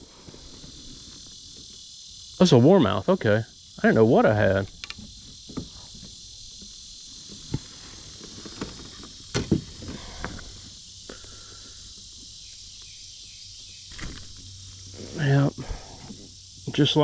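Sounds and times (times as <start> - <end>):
insect chorus droning: 0.0 - 17.0.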